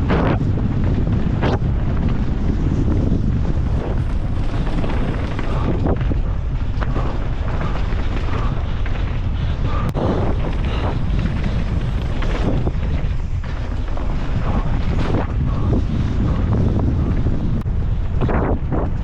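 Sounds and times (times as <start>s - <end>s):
mountain bike rumbling on trail: 0.0s - 19.0s
wind on microphone: 0.0s - 19.0s.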